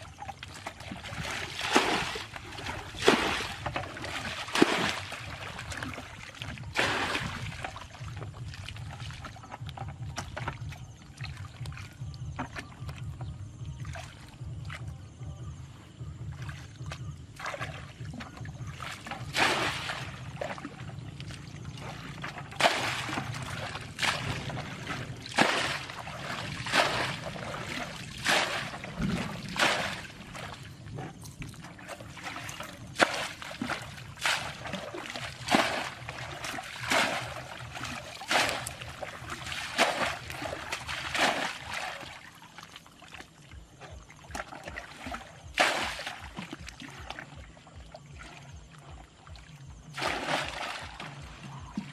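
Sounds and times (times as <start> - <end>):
water splashing from bucket: 0.0 - 14.9, 16.2 - 51.9
low steady water rush: 0.0 - 51.9.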